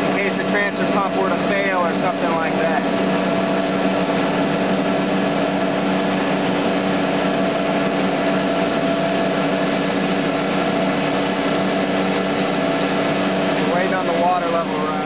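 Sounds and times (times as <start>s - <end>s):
blower humming: 0.0s - 15.0s.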